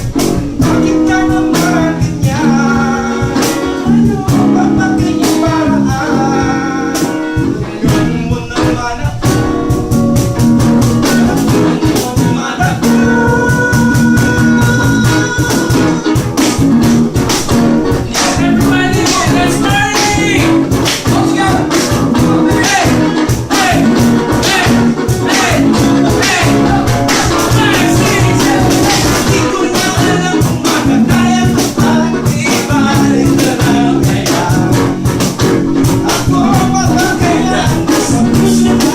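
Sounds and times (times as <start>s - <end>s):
person singing: 0.0s - 16.6s, 17.4s - 38.9s
band playing loudly: 0.0s - 38.9s
guitar: 0.0s - 38.9s.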